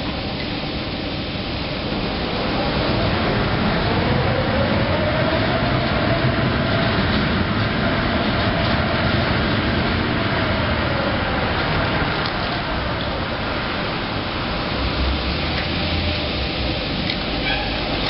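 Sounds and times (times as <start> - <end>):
crane mechanical rumble: 0.0 - 18.0.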